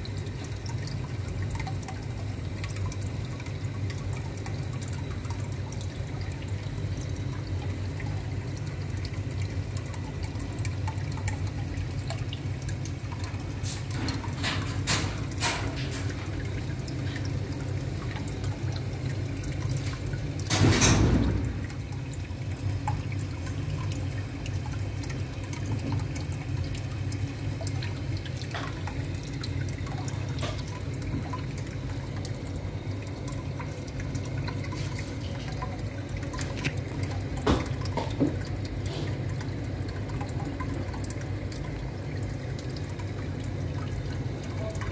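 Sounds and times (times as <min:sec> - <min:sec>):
filter humming: 0:00.0 - 0:44.9
water trickling into tank: 0:00.0 - 0:44.9.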